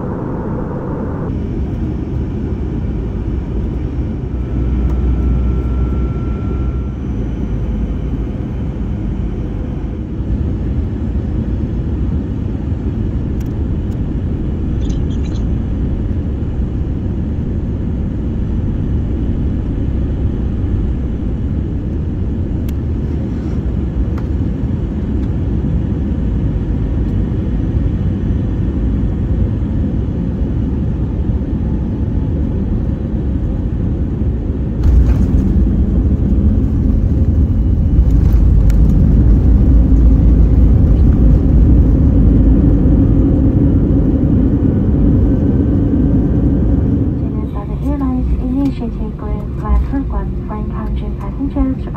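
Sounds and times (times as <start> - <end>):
wheels rumbling on runway: 0.0 - 9.8, 10.4 - 28.2, 30.8 - 50.0
airplane cabin rumble: 0.0 - 51.9
jet engines humming: 0.0 - 51.9.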